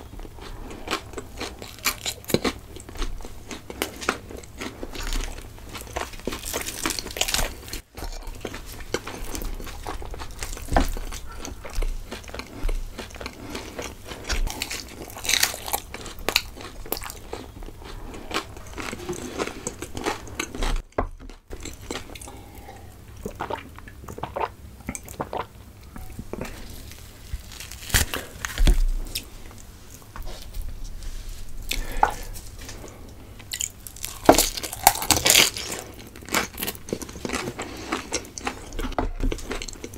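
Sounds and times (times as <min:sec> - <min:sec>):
chewing and biting food: 0:00.0 - 0:29.6, 0:31.7 - 0:39.9.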